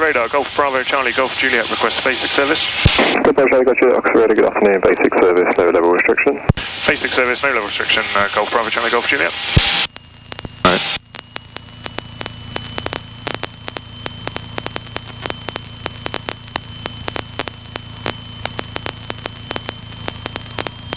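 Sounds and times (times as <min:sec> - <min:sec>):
aircraft engine hum: 0:00.0 - 0:20.9
crackling intercom static: 0:00.0 - 0:20.9.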